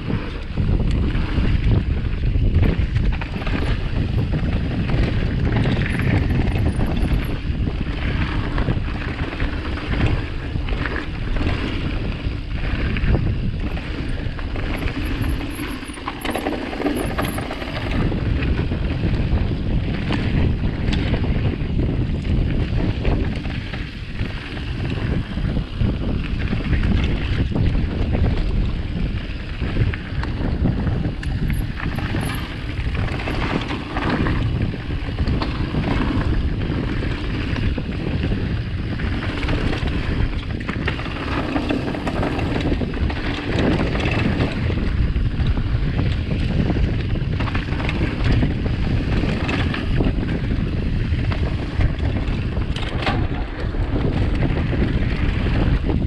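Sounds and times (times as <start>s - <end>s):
bike clattering over rough ground: 0.0s - 56.0s
bike tyre noise: 0.0s - 56.0s
wind noise on microphone: 0.0s - 56.0s.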